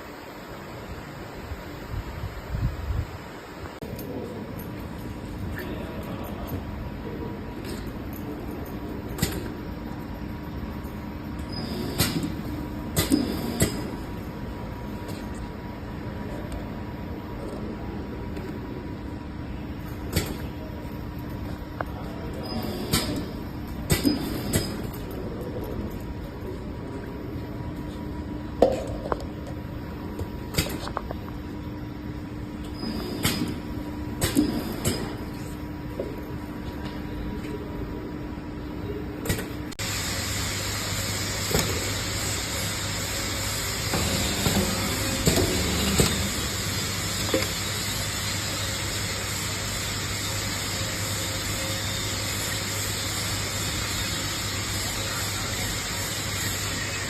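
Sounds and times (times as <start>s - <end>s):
printing machine hum: 0.0s - 57.0s.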